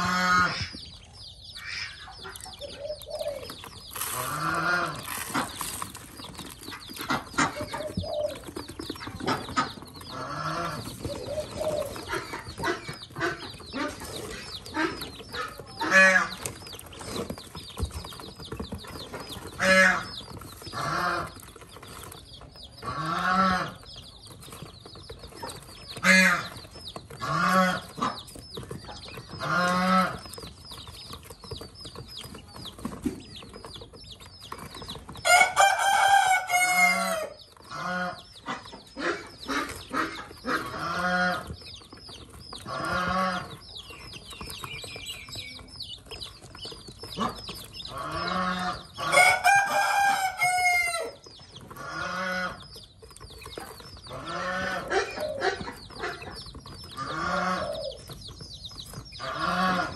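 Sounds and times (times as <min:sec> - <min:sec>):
ducklings peeping: 0:00.0 - 0:59.9
poultry calling: 0:00.0 - 0:59.9.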